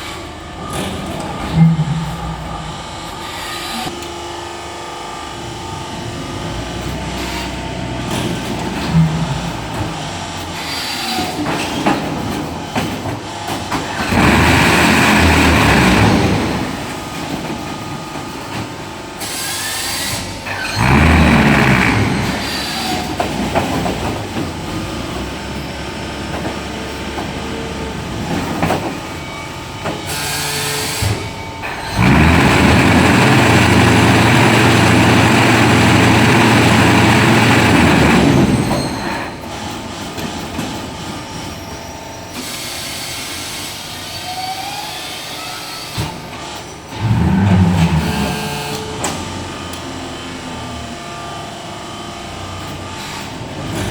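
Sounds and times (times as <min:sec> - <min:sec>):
machine loud rumbling: 0:00.0 - 0:41.5, 0:46.3 - 0:51.6.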